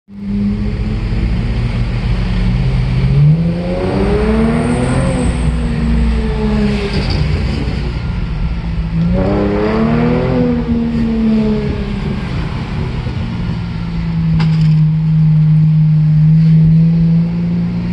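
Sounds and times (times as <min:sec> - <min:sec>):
car engine accelerating: 0:00.1 - 0:17.9.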